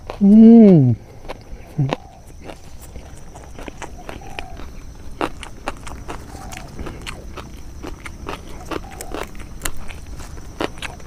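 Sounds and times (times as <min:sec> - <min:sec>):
chewing crunchy leafy vegetables: 0:00.0 - 0:11.0.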